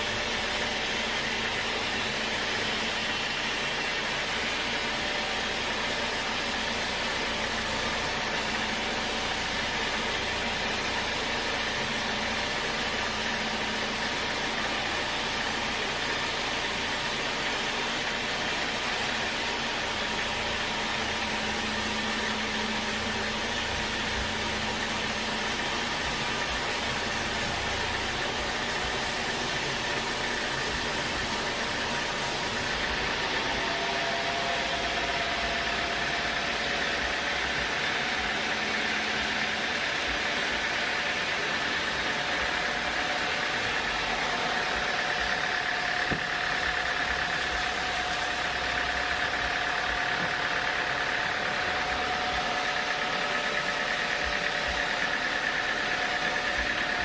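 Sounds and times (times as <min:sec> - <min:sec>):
faint machinery whines: 0:00.0 - 0:57.0
sawmill machinery drone: 0:00.0 - 0:57.0.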